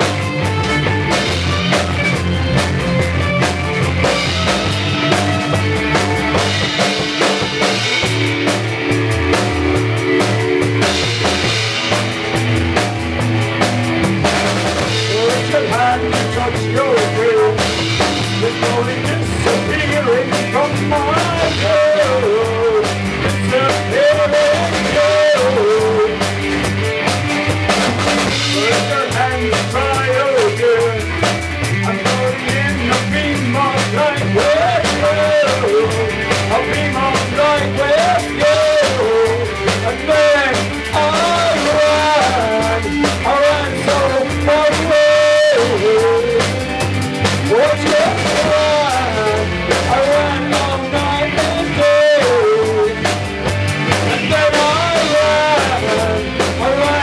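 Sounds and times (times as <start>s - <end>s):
drum kit beat: 0.0s - 57.0s
guitar: 0.0s - 57.0s.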